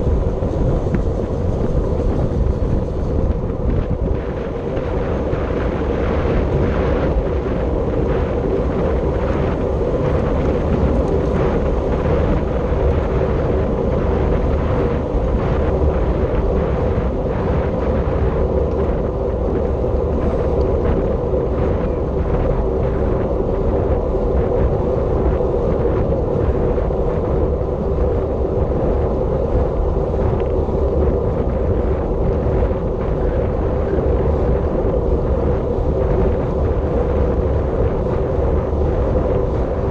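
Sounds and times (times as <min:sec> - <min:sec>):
constant hum: 0:00.0 - 0:39.9
wind rushing over microphone: 0:00.0 - 0:39.9.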